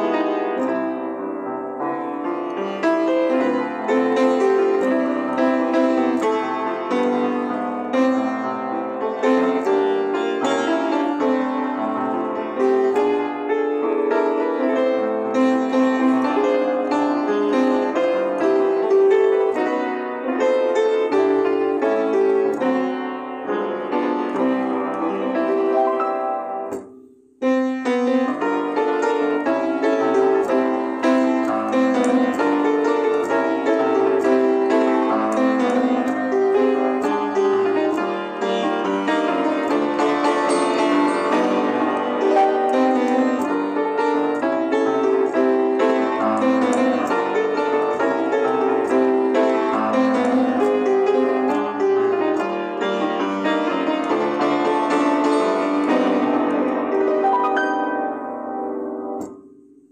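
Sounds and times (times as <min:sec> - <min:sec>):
solo jazz piano: 0:00.0 - 0:59.9.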